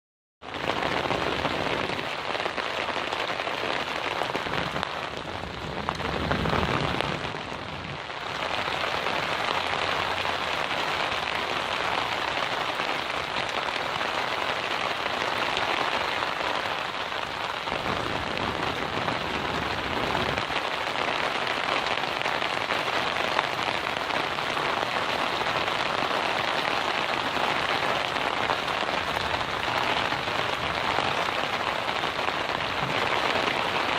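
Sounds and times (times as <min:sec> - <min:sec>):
rain pouring: 0:00.4 - 0:33.9.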